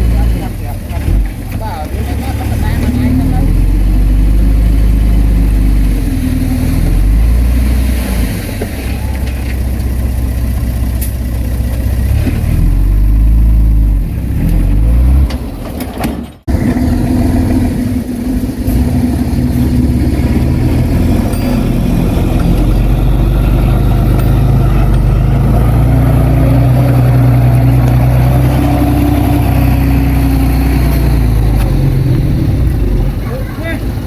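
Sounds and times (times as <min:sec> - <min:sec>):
heavy diesel machinery working: 0:00.0 - 0:34.0.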